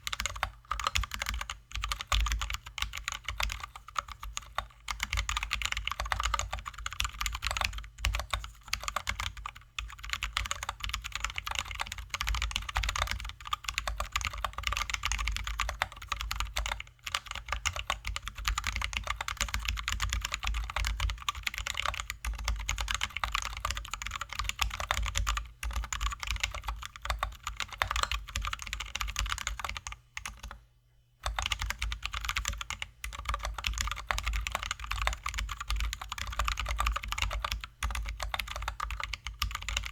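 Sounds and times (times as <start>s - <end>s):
fast typing on mechanical keyboard: 0.0s - 30.6s, 31.2s - 39.9s.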